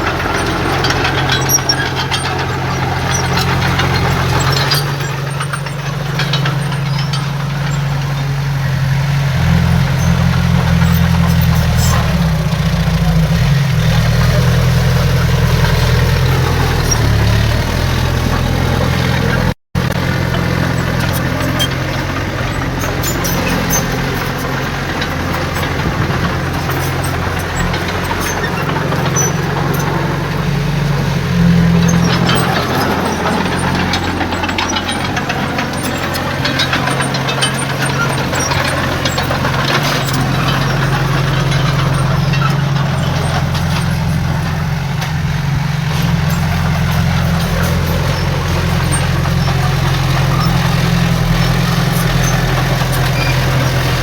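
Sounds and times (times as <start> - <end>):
clicks and rattles: 0.0 - 54.0
heavy diesel machinery drone: 0.0 - 54.0.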